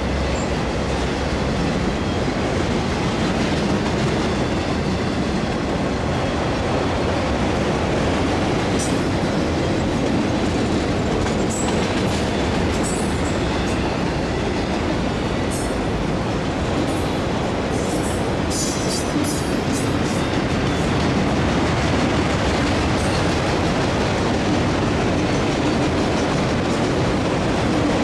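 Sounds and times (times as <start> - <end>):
clickety-clack at rail joints: 0.0 - 28.0
freight train wheels rumbling: 0.0 - 28.0.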